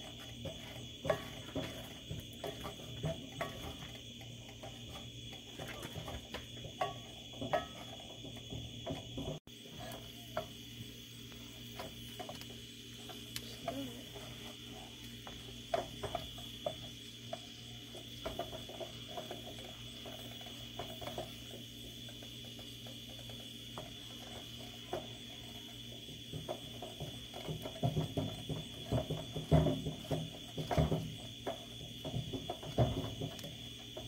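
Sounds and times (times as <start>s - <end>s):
wooden spoon scraping a skillet: 0.0s - 34.0s.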